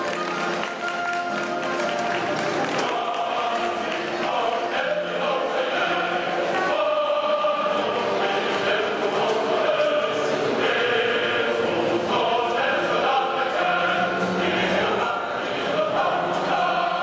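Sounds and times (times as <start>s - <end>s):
choir singing long notes: 0.0s - 17.0s.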